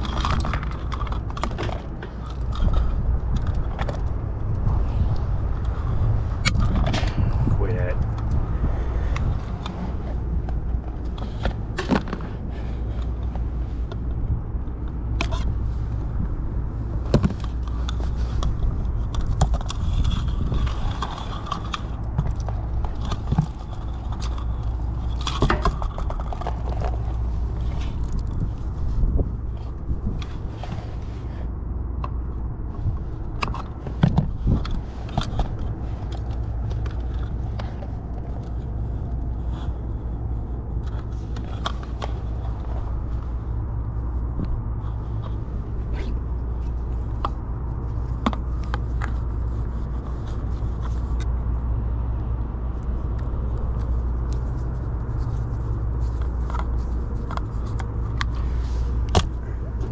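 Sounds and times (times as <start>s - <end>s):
low machinery hum: 0.0s - 59.9s.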